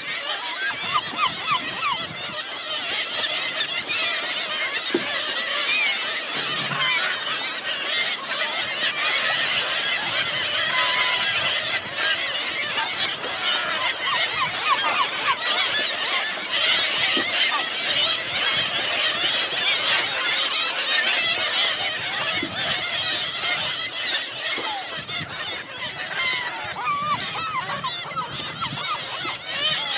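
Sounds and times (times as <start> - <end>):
flock of gulls calling: 0.0 - 29.9.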